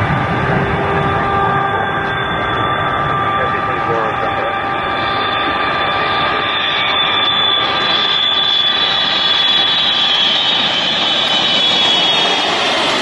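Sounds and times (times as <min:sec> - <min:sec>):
jet engines whining on landing: 0:00.0 - 0:13.0.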